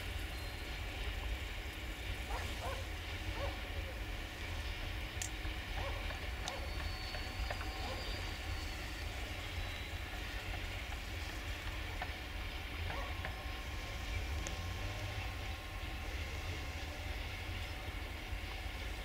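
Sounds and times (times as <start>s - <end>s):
freight wagons rolling on track: 0.0s - 19.0s.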